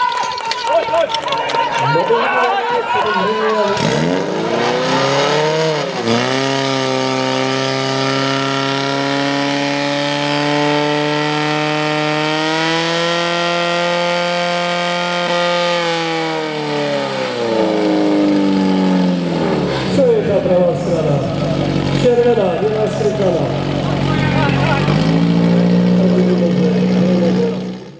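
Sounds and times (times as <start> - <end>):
fire pump engine running: 2.7 - 12.9, 13.7 - 27.9.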